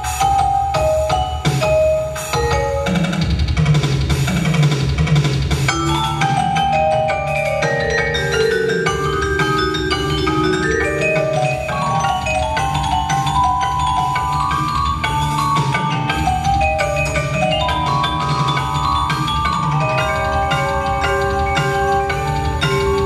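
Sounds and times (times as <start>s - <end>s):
synth marimba: 0.0s - 4.3s, 5.5s - 23.0s
vibraphone melody: 0.0s - 4.6s, 5.5s - 23.0s
drum kit beat: 0.0s - 23.0s.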